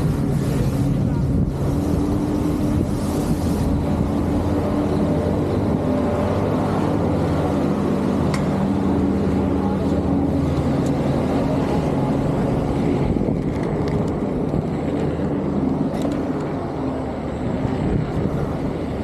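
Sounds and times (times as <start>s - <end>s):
electric unicycle rumbling on pavement: 0.0s - 19.0s.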